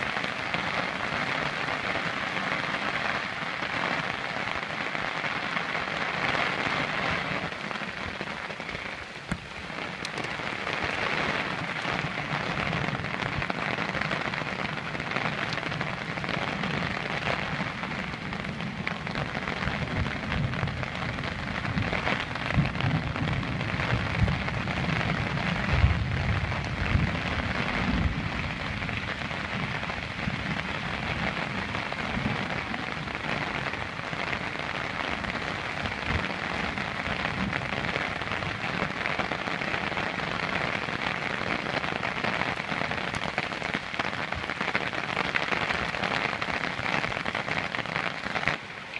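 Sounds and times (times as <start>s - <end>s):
heavy rain on brush: 0.0s - 48.9s.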